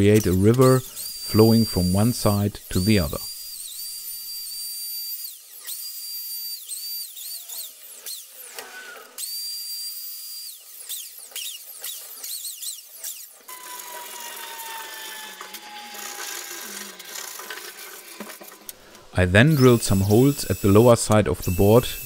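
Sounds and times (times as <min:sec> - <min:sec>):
electric router whining: 0:00.0 - 0:22.0.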